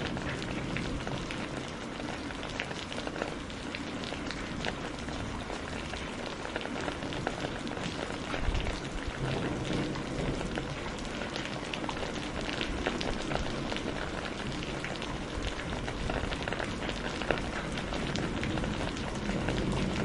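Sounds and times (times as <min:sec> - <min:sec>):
rain hissing: 0:00.0 - 0:20.0
raindrops pattering on hard surface: 0:00.0 - 0:20.0.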